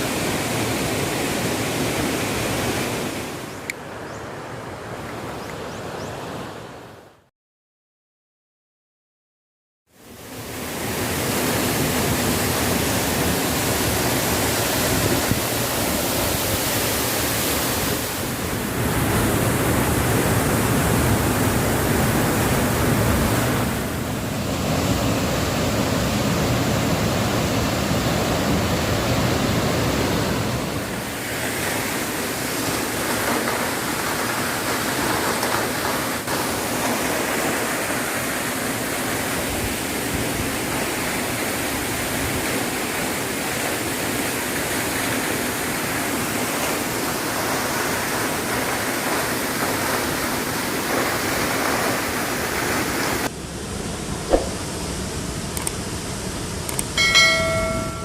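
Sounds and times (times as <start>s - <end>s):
waterfall rushing: 0.0s - 3.6s, 10.1s - 53.3s.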